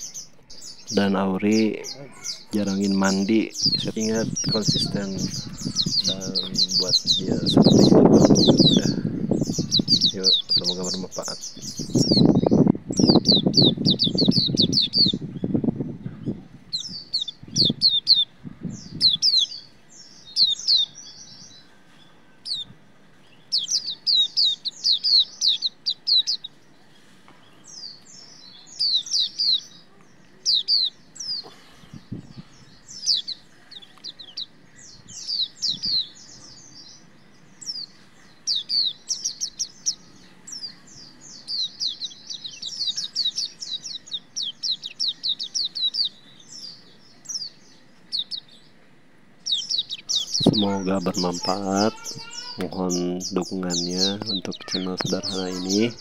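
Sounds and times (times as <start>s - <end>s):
bird singing high thin chirps: 0.0s - 22.7s, 23.3s - 26.6s, 27.4s - 48.8s, 49.4s - 56.0s.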